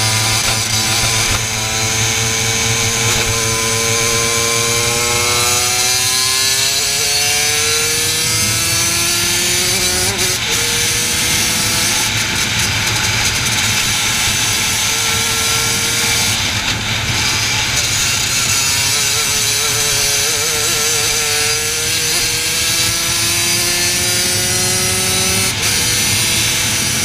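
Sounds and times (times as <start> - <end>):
kart engine at full throttle: 0.0 - 27.0.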